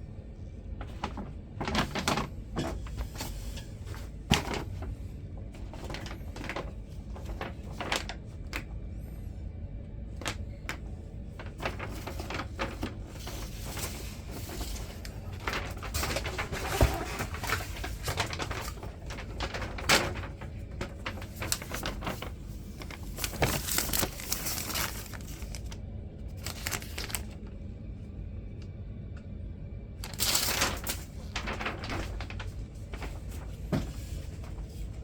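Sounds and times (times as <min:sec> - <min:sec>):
steady low hum: 0:00.0 - 0:35.0
paper rustling: 0:00.4 - 0:08.8, 0:10.2 - 0:27.5, 0:30.0 - 0:35.0.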